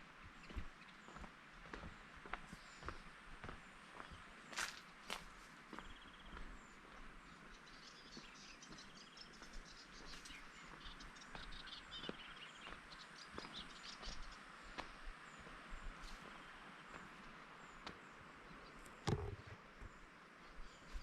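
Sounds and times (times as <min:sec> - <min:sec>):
small birds chirping: 0:00.0 - 0:21.0
soft footsteps: 0:00.4 - 0:07.1, 0:08.1 - 0:18.1, 0:19.1 - 0:21.0.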